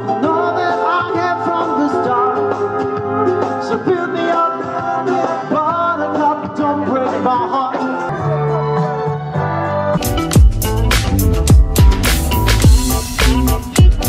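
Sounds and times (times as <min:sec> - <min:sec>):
song with vocals: 0:00.0 - 0:14.0.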